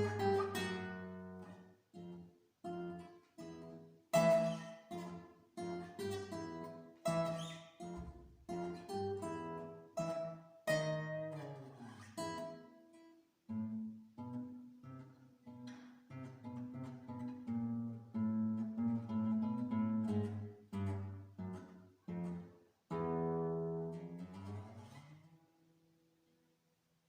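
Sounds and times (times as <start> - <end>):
acoustic guitar playing: 0.0 - 26.1.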